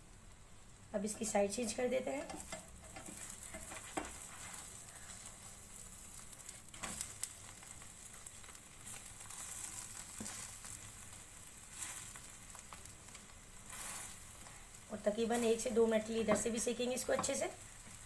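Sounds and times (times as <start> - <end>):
omelette sizzling in oil: 0.0 - 18.0.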